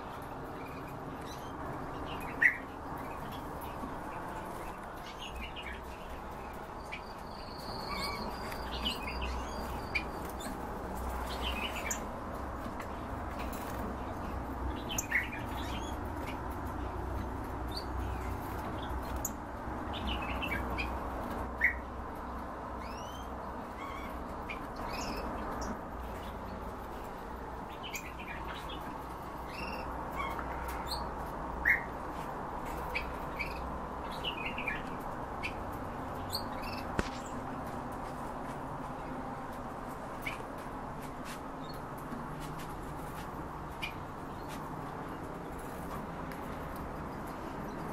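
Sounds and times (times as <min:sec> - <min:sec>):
caged birds chirping: 0:00.0 - 0:47.9
low background noise: 0:00.0 - 0:47.9.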